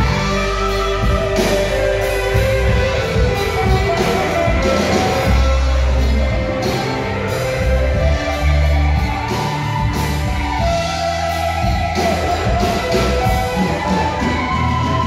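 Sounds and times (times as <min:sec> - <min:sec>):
bass line: 0:00.0 - 0:15.0
electric guitar: 0:00.0 - 0:15.0.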